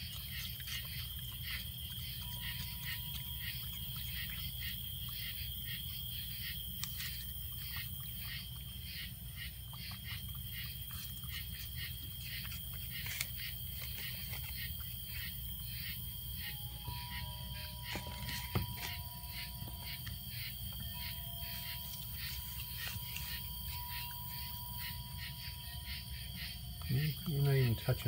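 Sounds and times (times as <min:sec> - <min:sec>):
insects chirping: 0:00.0 - 0:28.0
low steady hum: 0:00.0 - 0:28.0.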